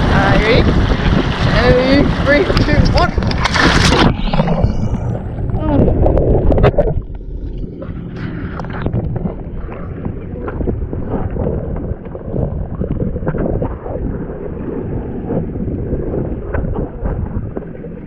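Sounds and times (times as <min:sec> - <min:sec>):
jet ski engine rumble: 0:00.0 - 0:18.0
wind buffeting microphone: 0:00.0 - 0:18.0.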